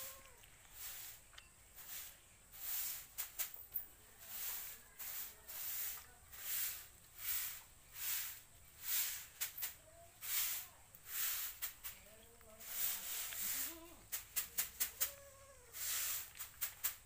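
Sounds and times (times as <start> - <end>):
broom sweeping a floor: 0.0 - 17.0.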